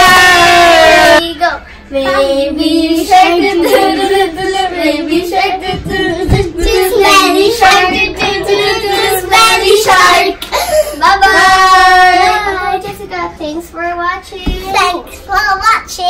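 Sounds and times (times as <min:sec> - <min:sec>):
girls singing a children's song: 0:00.0 - 0:16.0.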